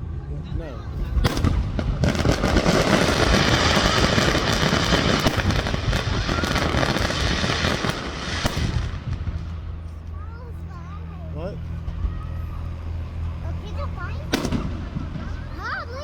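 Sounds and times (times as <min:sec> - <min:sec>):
fireworks crackling and popping: 0:00.9 - 0:16.0.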